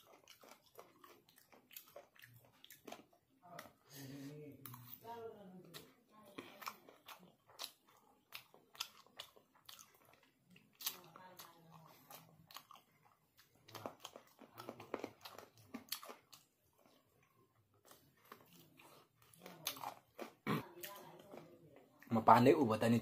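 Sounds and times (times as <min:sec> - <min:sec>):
person chewing food: 0:00.0 - 0:22.3.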